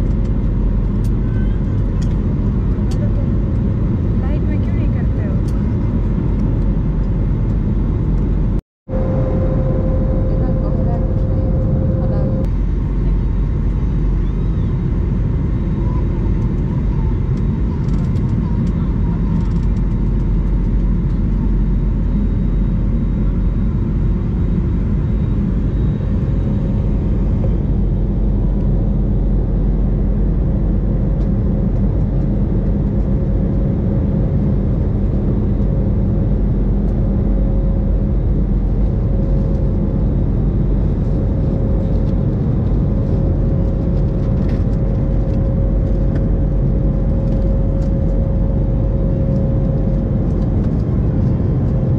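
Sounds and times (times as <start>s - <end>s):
jet engines rumbling in cabin: 0.0s - 51.9s.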